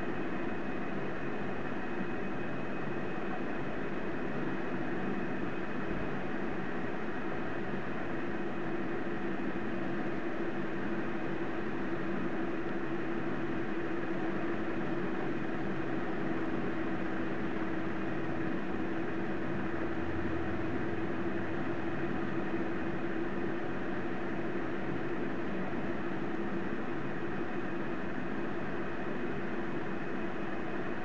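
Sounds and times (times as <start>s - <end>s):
background hum and hiss: 0.0s - 31.0s.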